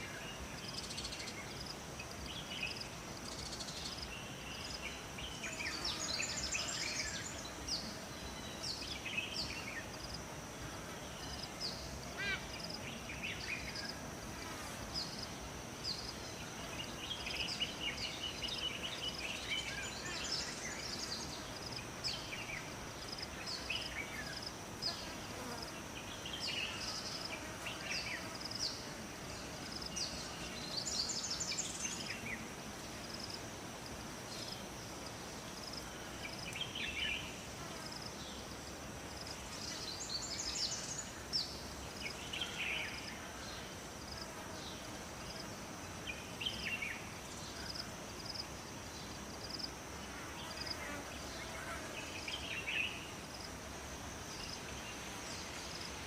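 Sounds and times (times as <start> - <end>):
insect buzzing and chirping: 0.0 - 56.0
soft even hiss: 0.0 - 56.0.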